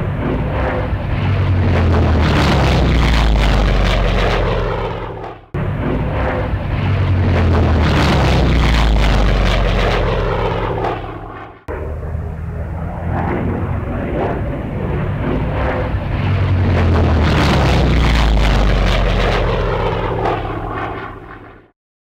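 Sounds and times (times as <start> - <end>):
propeller airplane engine drone: 0.0 - 21.8.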